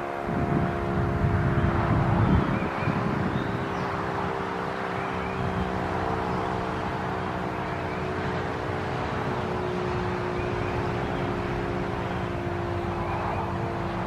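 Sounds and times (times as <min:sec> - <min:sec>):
fire siren steady tone: 0:00.0 - 0:14.0.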